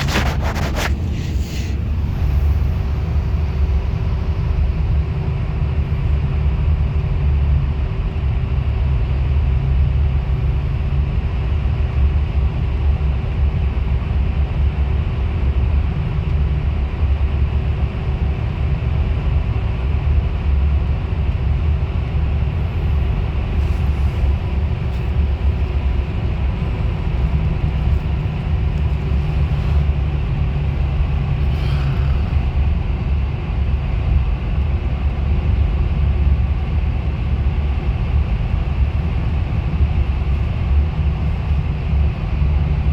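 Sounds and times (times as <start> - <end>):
bus engine and road noise: 0.0 - 42.9.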